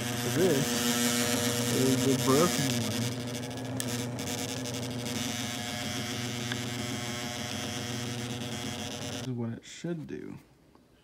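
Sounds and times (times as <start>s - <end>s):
electric sander motor buzzing: 0.0s - 9.3s.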